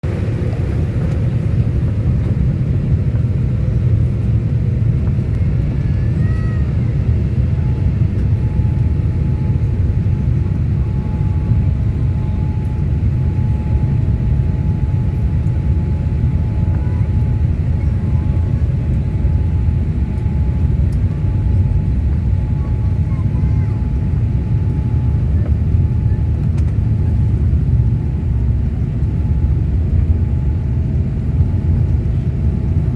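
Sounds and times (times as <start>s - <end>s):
airliner cabin rumble: 0.0s - 32.9s.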